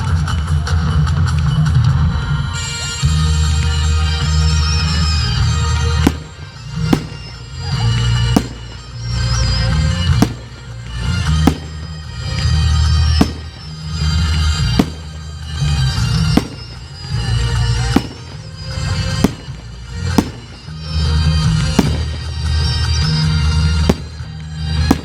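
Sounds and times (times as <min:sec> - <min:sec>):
music with heavy bass: 0:00.0 - 0:25.0
fireworks bangs: 0:03.5 - 0:25.0.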